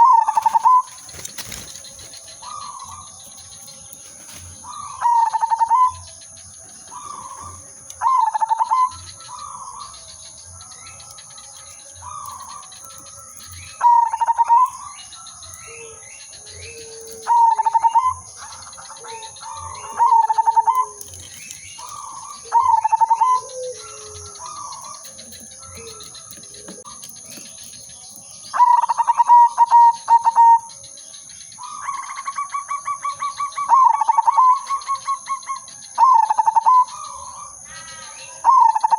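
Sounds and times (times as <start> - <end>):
dove cooing trills: 0.0 - 38.9.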